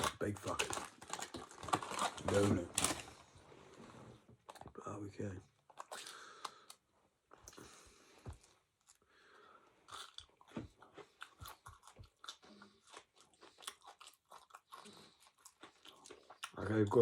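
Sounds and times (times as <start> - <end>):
person chewing crispy food: 0.0 - 3.2, 5.6 - 17.0.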